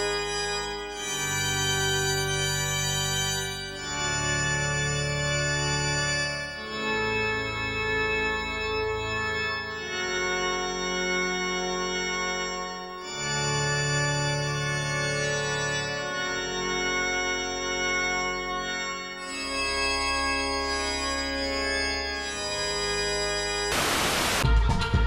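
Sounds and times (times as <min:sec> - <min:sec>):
sustained chord background music: 0:00.0 - 0:23.7.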